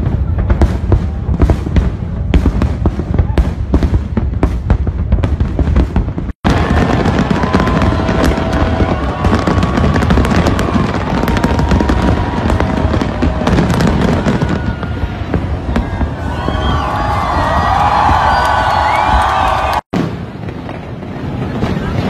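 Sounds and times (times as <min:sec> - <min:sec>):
deep fireworks booms: 0:00.0 - 0:22.0
fireworks bangs and crackles: 0:00.0 - 0:22.0
high whistling fireworks notes: 0:00.0 - 0:22.0.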